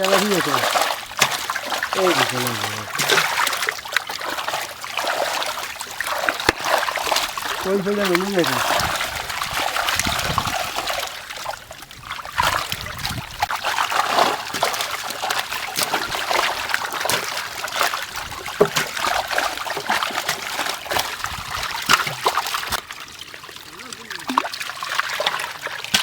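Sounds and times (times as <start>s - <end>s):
water splashing and trickling: 0.0s - 26.0s.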